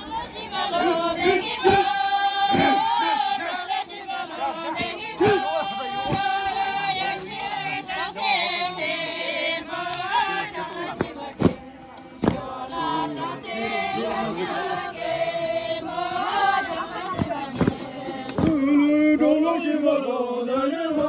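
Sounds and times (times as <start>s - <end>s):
group of voices chanting: 0.0s - 21.0s.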